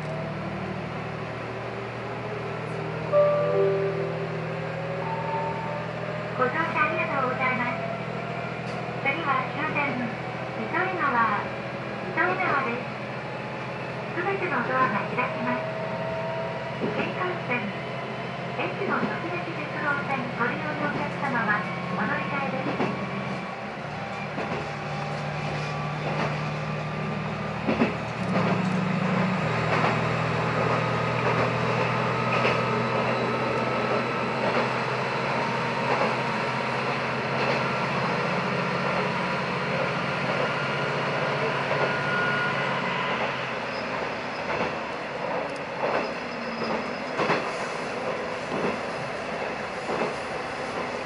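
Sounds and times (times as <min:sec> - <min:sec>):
train engine drone: 0:00.0 - 0:51.0.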